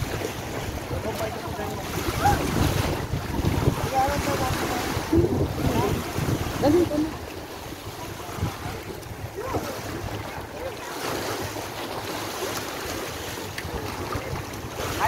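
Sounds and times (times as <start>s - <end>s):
faint voices: 0.0s - 15.0s
waves splashing on rocks: 0.0s - 15.0s
wind buffeting microphone: 0.0s - 15.0s.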